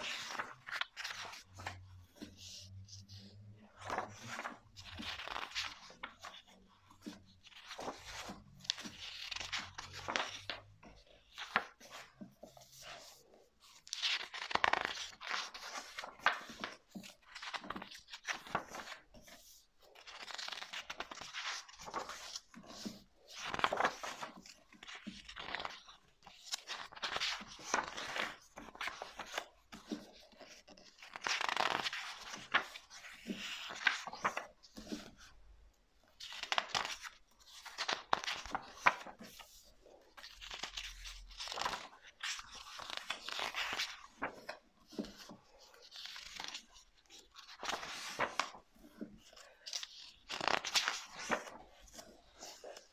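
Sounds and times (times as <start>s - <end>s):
book pages turning: 0.0s - 35.4s, 36.0s - 52.9s.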